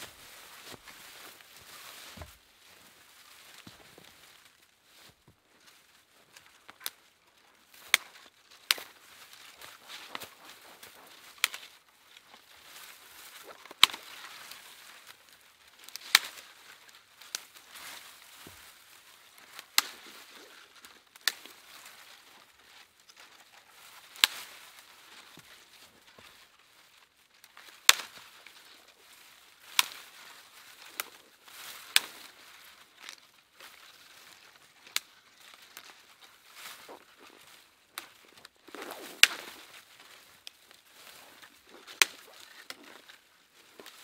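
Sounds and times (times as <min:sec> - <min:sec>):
twigs rustling: 0:00.0 - 0:44.0.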